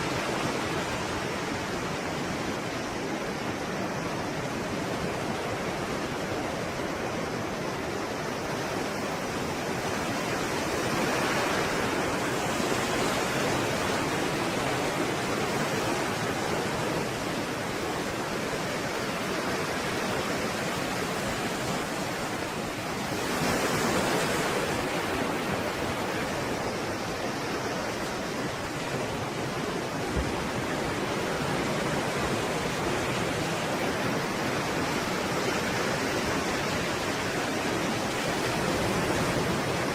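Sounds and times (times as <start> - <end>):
stormy sea waves rushing: 0.0 - 39.9.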